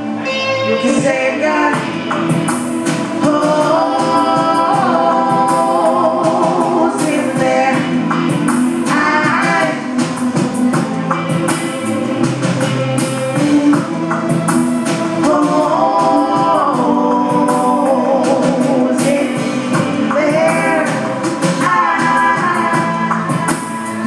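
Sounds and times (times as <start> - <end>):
person singing lead vocal: 0.0 - 24.0.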